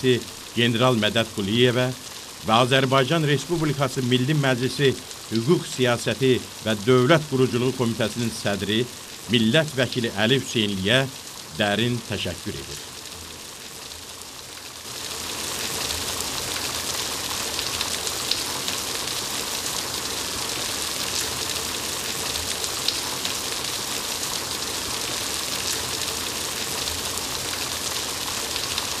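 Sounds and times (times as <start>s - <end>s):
rushing hiss with crackles: 0.0s - 29.0s.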